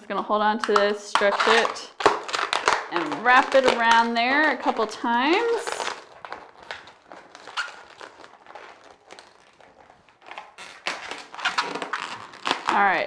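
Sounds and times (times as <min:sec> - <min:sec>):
balloons squeaking and rubbing: 0:00.7 - 0:13.0.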